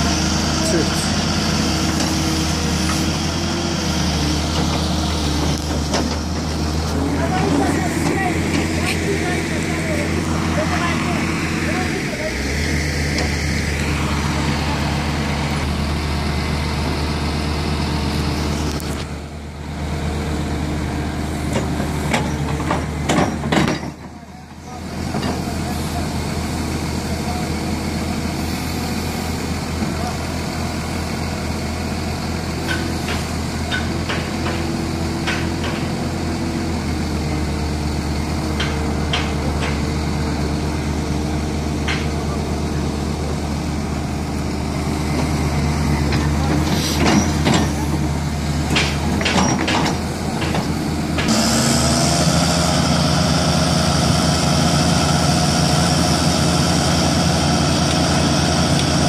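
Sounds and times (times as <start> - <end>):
diesel excavator engines: 0.0 - 59.0.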